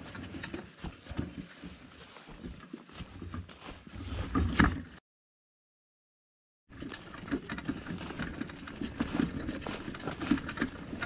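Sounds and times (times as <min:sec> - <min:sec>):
footsteps on grassy path: 0:00.0 - 0:05.0, 0:06.7 - 0:11.0.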